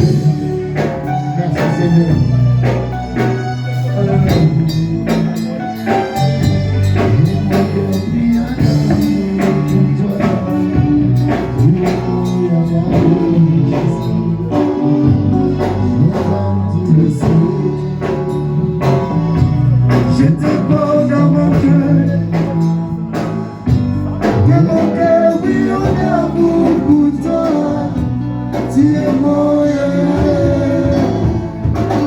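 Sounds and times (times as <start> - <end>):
gospel church band: 0.0 - 32.0
percussion beat: 0.0 - 32.0
singing: 0.0 - 32.0.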